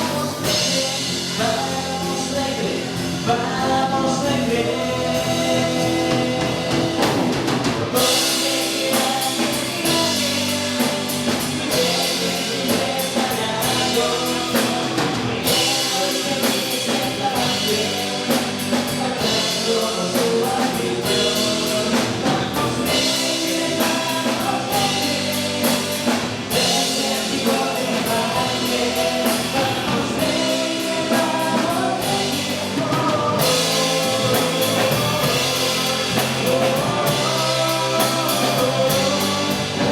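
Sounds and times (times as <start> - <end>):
drum kit: 0.0 - 39.9
singing over rock band: 0.0 - 39.9.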